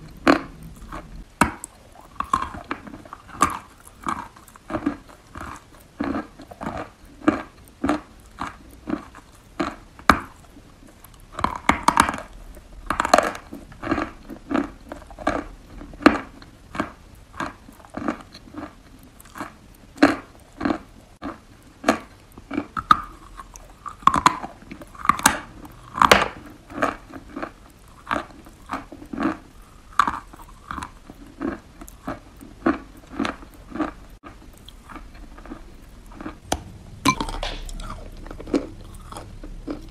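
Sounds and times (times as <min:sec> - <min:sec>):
chalk being chewed: 0:00.0 - 0:36.5.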